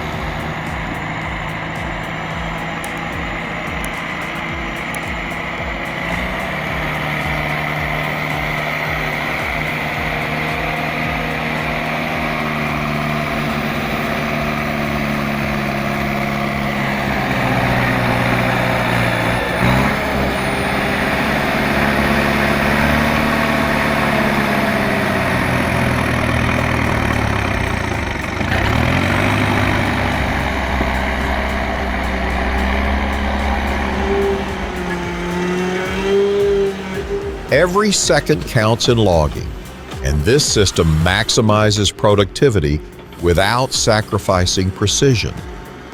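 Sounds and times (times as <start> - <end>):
heavy vehicle engine revving: 0.0 - 45.9.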